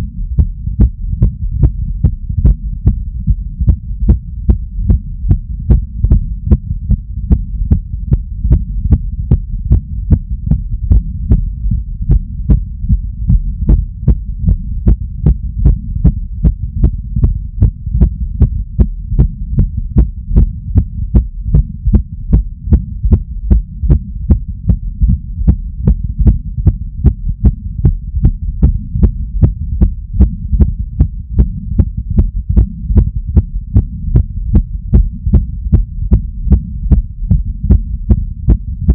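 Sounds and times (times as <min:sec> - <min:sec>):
fast heartbeat: 0:00.0 - 0:38.9
steady low rumble: 0:00.0 - 0:38.9.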